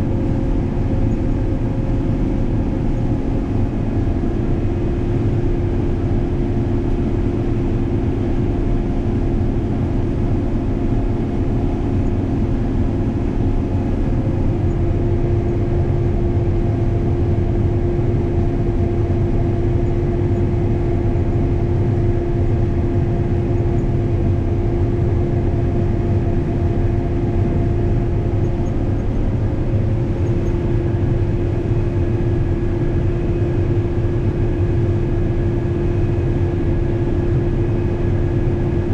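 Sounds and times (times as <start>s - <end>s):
combine harvester machine drone: 0.0s - 38.9s.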